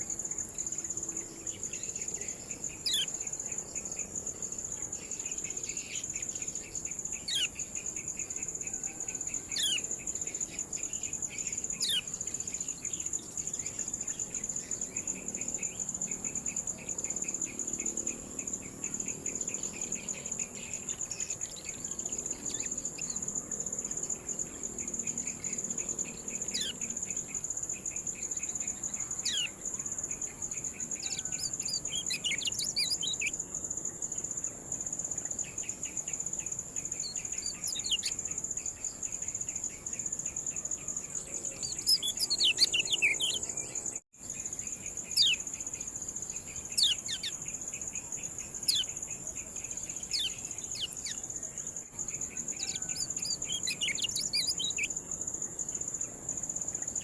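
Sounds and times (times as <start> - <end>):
bird chirping: 0.0 - 57.0
pulsed insect chirring: 9.1 - 57.0.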